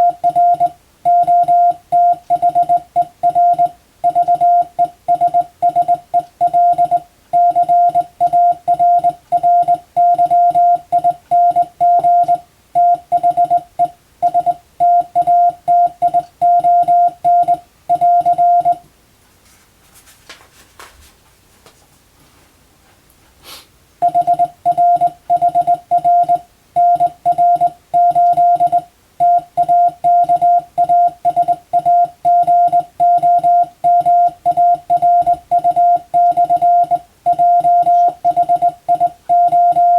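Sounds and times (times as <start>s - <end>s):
morse code tone: 0.0s - 18.8s, 24.0s - 39.9s.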